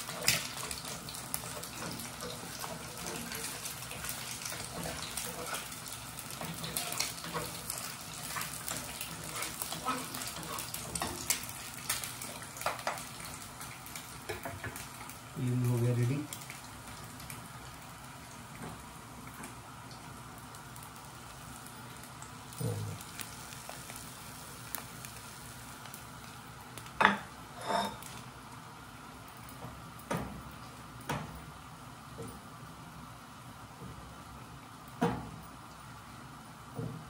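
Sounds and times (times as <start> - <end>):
egg sizzling in a pan: 0.0 - 37.0.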